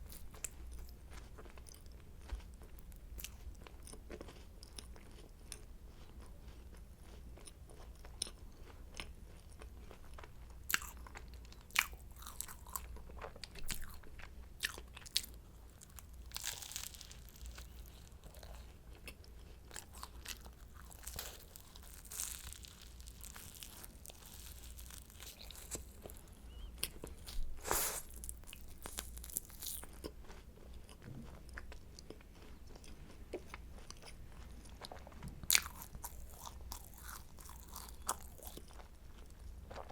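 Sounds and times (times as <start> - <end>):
chewing crunchy pastry: 0.0 - 39.9
faint low hum: 0.0 - 39.9.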